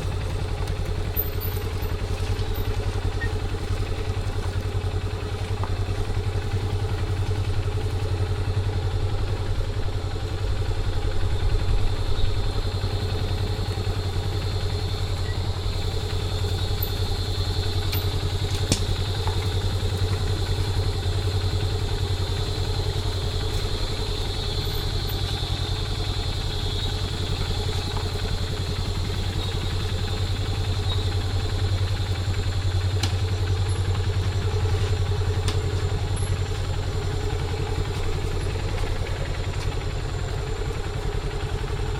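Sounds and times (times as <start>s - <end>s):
small motorcycle engine running: 0.0s - 41.9s.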